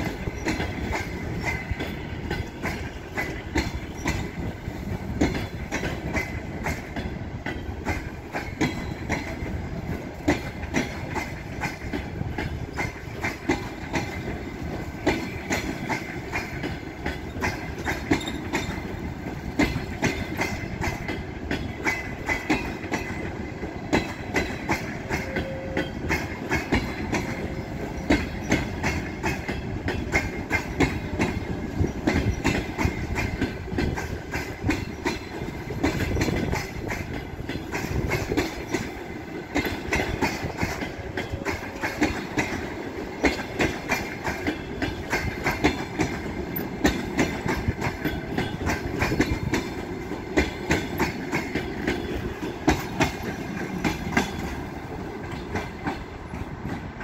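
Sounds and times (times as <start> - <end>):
train wheels rumbling on rails: 0.0 - 57.0
wheels clicking over rail joints: 0.0 - 57.0.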